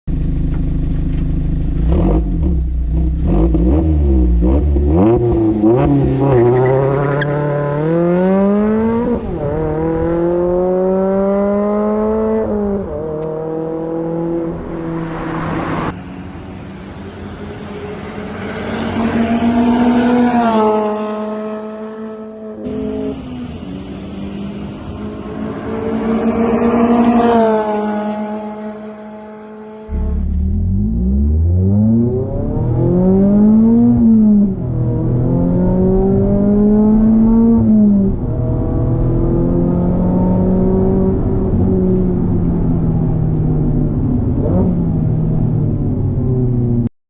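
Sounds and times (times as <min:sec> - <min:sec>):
car engine accelerating hard: 0:00.2 - 0:46.9.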